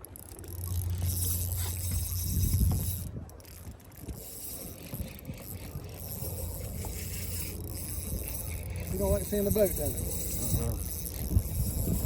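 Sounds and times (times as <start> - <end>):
fishing reel clicking: 0.0 - 12.0.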